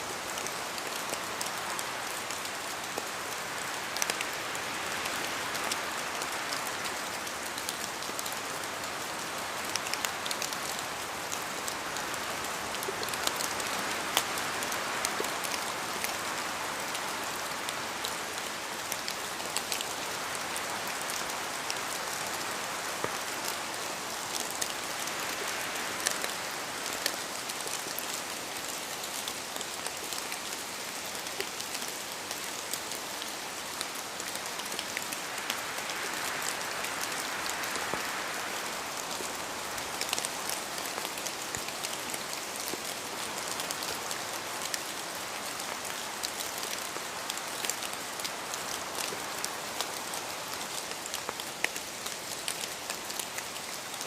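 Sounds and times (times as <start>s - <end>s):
rain pattering in a forest: 0.0s - 54.0s.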